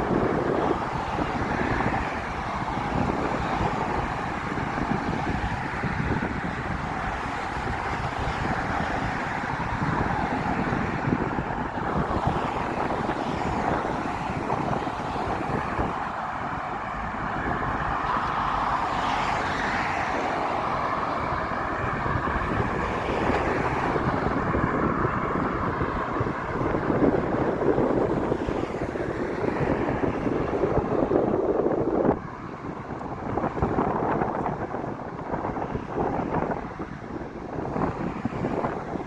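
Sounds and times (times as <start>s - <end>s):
steady rushing noise: 0.0s - 39.0s
wind buffeting microphone: 0.0s - 39.0s.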